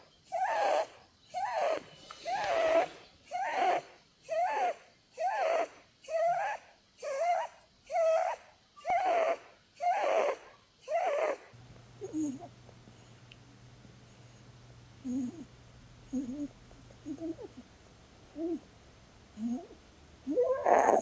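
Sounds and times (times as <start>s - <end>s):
rabbit snoring: 0.3s - 21.0s.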